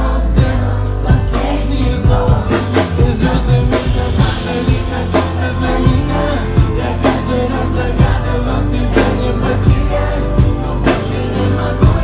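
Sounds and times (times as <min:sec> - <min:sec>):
deep bass: 0:00.0 - 0:12.0
person singing: 0:00.0 - 0:12.0
pop song: 0:00.0 - 0:12.0
drum beat: 0:00.4 - 0:08.4, 0:09.7 - 0:12.0.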